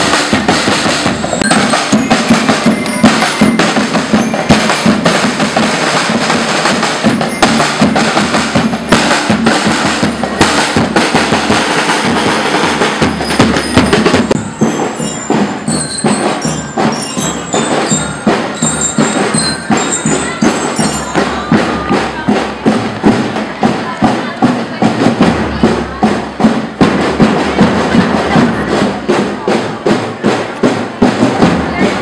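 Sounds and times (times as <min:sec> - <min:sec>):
drumline playing march beat: 0:00.0 - 0:32.0.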